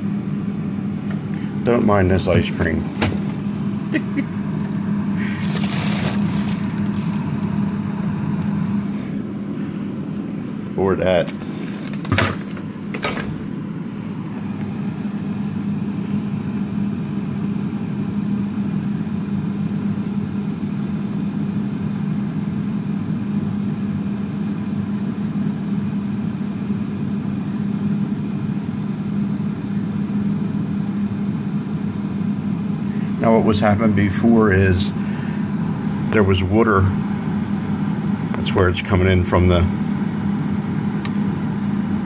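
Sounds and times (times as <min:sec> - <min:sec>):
refrigerator humming: 0:00.0 - 0:42.0.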